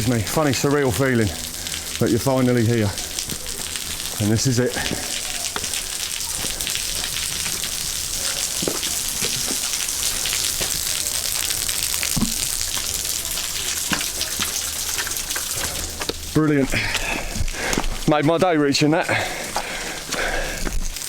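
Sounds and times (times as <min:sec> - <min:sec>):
rushing water hiss: 0:00.0 - 0:21.0.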